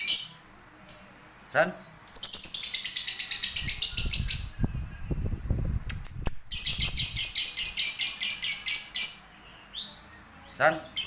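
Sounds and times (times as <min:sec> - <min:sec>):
lovebird chattering trill: 0:00.0 - 0:05.1, 0:05.9 - 0:11.0.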